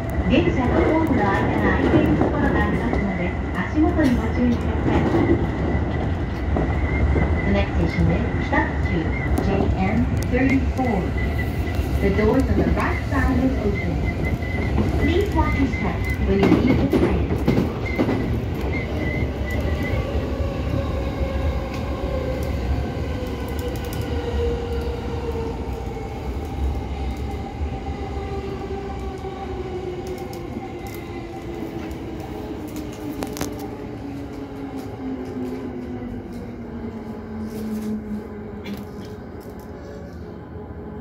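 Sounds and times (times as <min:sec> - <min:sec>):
wheels rumbling on rail: 0:00.0 - 0:41.0.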